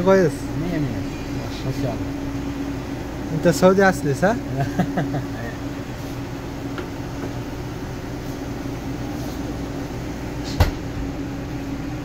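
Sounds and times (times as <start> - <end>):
espresso machine humming: 0.0 - 12.0.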